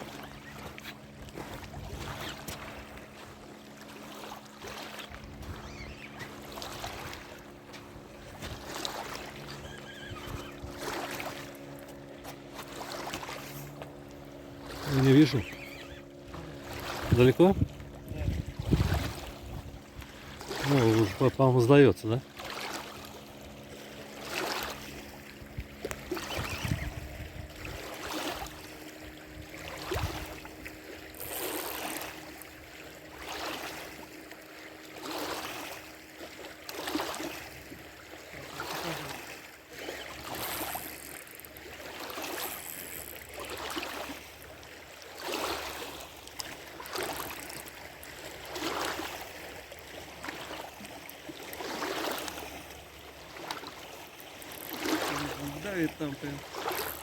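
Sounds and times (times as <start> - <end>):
water sloshing and lapping: 0.0 - 57.0.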